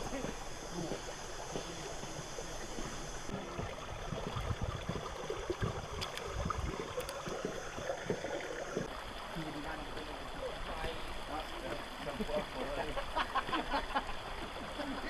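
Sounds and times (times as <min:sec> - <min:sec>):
river water splashing: 0:00.0 - 0:15.0.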